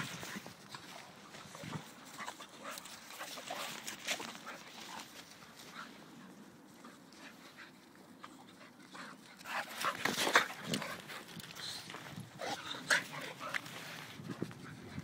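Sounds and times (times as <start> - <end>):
dogs play fighting noises: 0.0 - 15.0.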